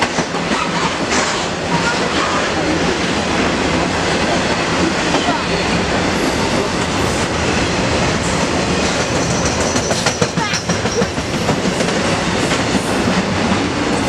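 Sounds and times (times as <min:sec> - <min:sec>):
freight train rumbling: 0:00.0 - 0:14.0.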